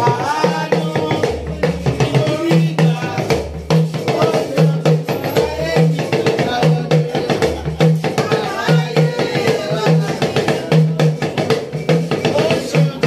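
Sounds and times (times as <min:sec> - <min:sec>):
person singing: 0:00.0 - 0:11.5
drum and percussion beat: 0:00.0 - 0:13.0.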